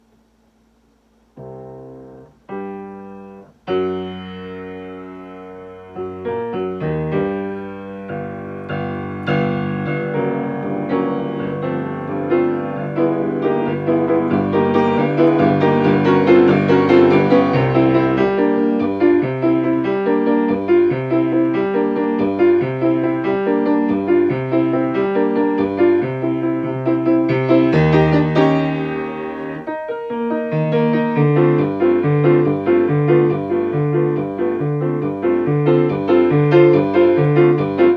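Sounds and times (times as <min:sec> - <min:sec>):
lively piano accompaniment: 0:01.3 - 0:37.9.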